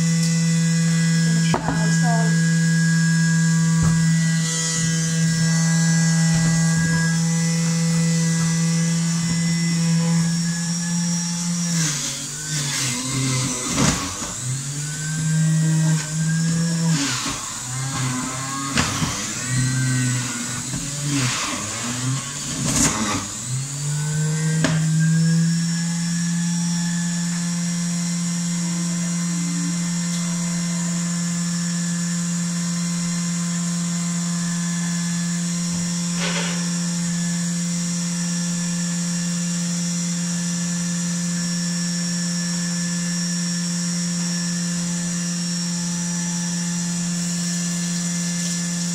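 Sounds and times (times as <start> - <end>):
juicer motor humming: 0.0 - 48.9.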